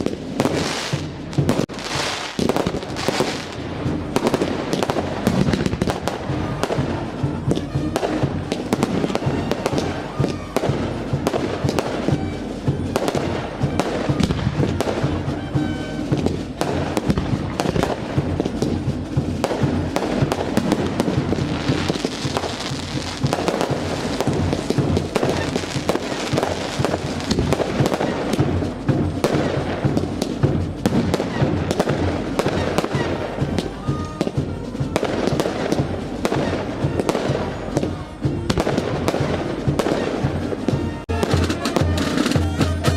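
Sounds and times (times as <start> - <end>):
crackling hiss: 0.0 - 40.7
fireworks bangs and crackles: 0.0 - 42.9.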